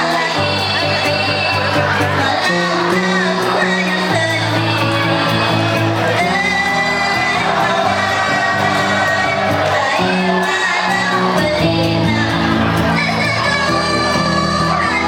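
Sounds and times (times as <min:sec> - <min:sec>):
crowd shouting: 0:00.0 - 0:15.0
held bass notes: 0:00.0 - 0:15.0
live rock band playing: 0:00.0 - 0:15.0
person singing: 0:00.0 - 0:15.0.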